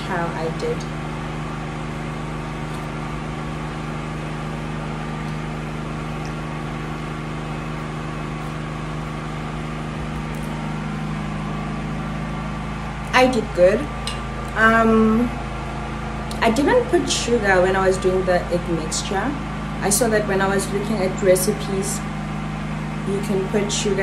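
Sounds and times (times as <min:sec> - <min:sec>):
generator engine humming: 0:00.0 - 0:24.0.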